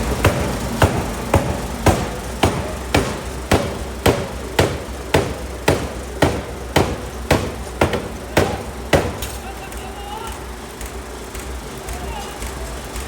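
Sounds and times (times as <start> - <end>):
forging hammer striking steel: 0.0 - 11.5.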